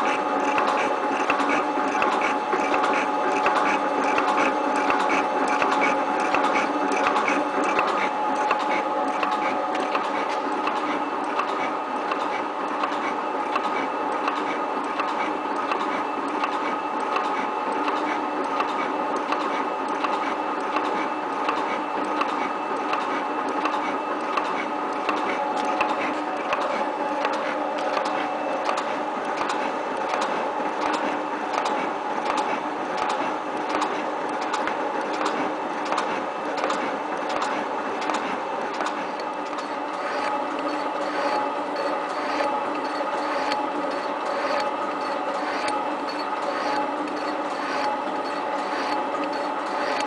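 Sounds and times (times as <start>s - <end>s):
metal shaper mechanical hum: 0.0s - 50.0s
repeated clicking: 0.4s - 50.0s.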